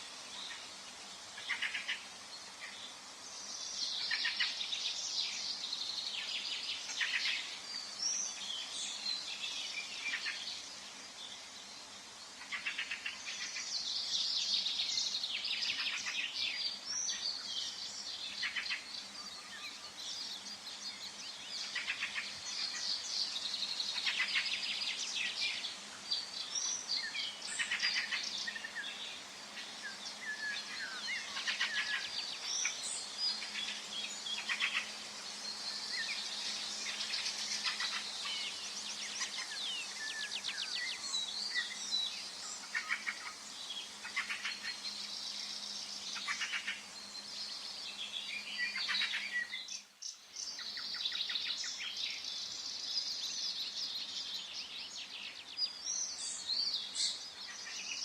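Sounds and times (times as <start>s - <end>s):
faint steady hum: 0.0s - 58.0s
songbirds singing and chirping: 0.0s - 58.0s.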